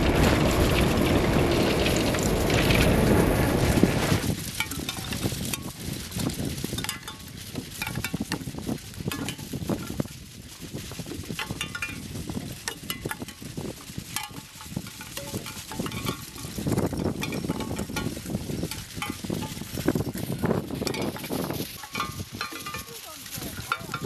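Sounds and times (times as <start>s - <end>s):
wind sculpture parts knocking and clinking: 4.2s - 24.0s.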